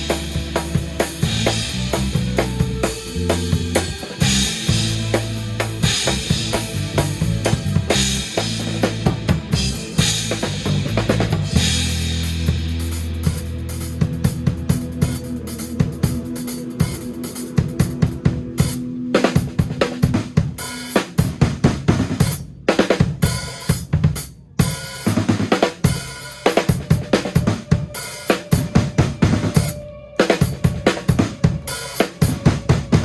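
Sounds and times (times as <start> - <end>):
drum kit rhythm: 0.0 - 33.0
live band playing: 0.0 - 33.0.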